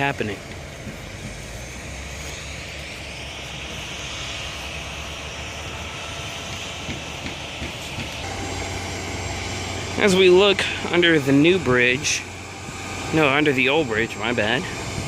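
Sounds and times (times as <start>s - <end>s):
engine rumble: 0.0s - 15.0s
hissing whine: 0.0s - 15.0s.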